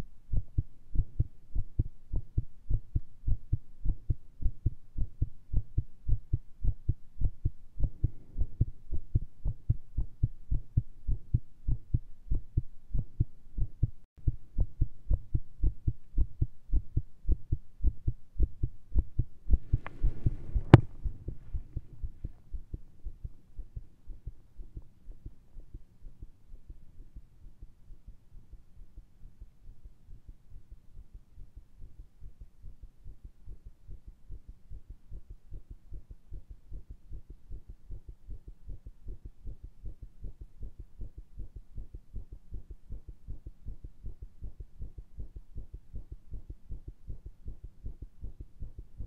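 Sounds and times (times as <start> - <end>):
rapid heartbeat thumps: 0.3 - 27.3, 32.4 - 49.0.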